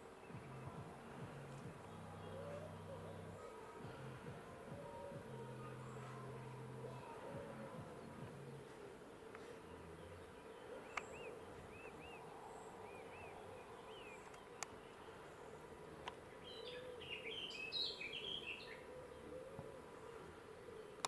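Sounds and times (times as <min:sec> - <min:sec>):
faint outdoor ambience: 0:00.0 - 0:21.0
small birds chirping: 0:00.0 - 0:21.0.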